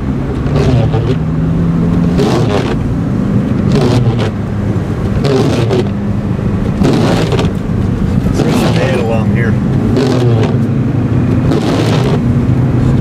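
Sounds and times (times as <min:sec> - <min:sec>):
car engine and tyre hum: 0:00.0 - 0:13.0
windshield wipers scraping glass: 0:00.3 - 0:01.3, 0:01.9 - 0:06.0, 0:06.6 - 0:13.0.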